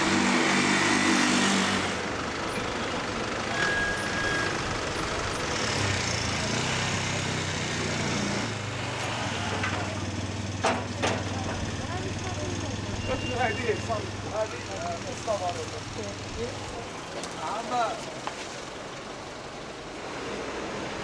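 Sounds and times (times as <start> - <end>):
motor tricycle engine: 0.0 - 21.0.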